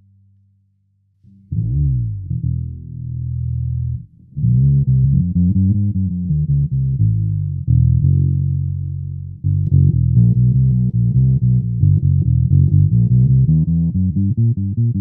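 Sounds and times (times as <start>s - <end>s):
fretless electric bass: 0.0s - 15.0s.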